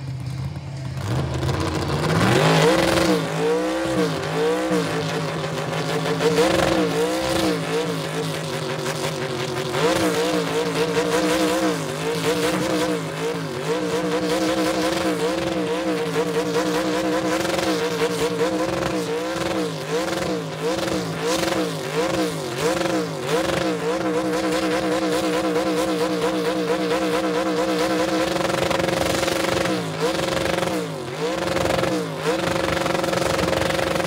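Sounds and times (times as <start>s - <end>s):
car engine at high revs: 0.0s - 34.0s
tires spinning on pavement: 0.0s - 34.0s.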